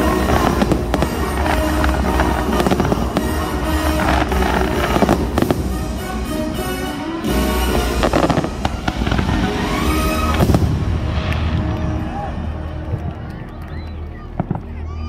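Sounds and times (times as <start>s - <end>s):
fireworks bursting and crackling: 0.0s - 14.9s
music soundtrack: 0.0s - 15.0s.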